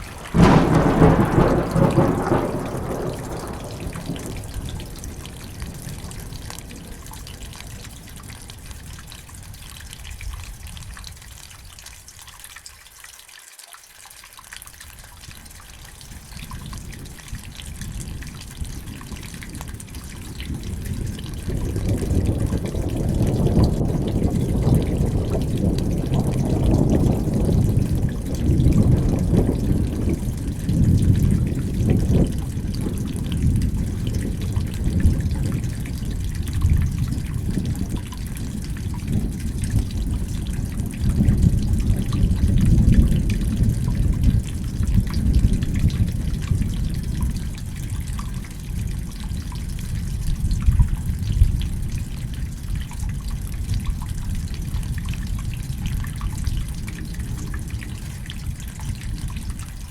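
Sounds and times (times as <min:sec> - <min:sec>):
thunder rumbling: 0:00.0 - 0:11.0, 0:16.0 - 0:59.9
steady rain: 0:00.0 - 0:59.9
water trickling and dripping: 0:00.0 - 0:59.9.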